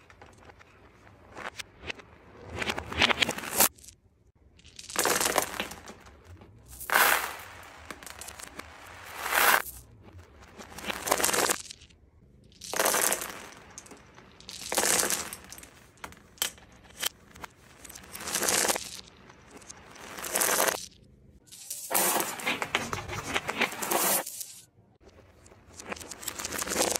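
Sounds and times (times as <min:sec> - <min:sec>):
beads and dice clattering on floor: 0:02.6 - 0:26.9.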